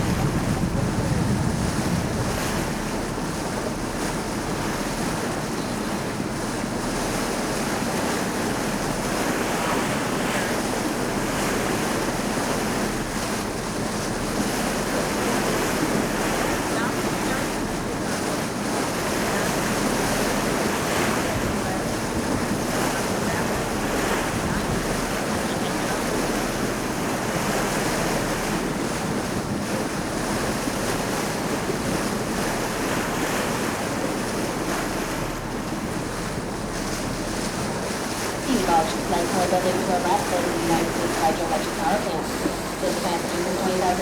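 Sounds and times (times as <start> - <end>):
boat engine hum: 0.0 - 44.0
water rushing along hull: 0.0 - 44.0
wind buffeting microphone: 0.0 - 44.0.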